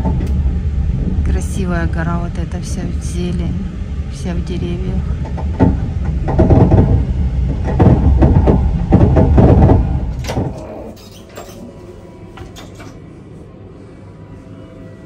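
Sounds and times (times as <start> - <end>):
train hum: 0.0 - 15.0
train rumbling on rails: 0.0 - 15.0.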